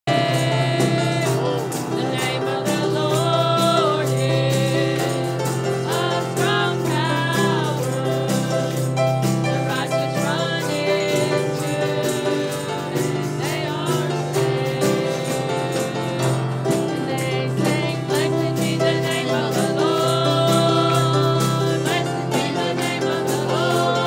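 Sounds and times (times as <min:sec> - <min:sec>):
person singing: 0:00.0 - 0:24.0
piano: 0:00.0 - 0:24.0
drum kit beat: 0:00.1 - 0:24.0.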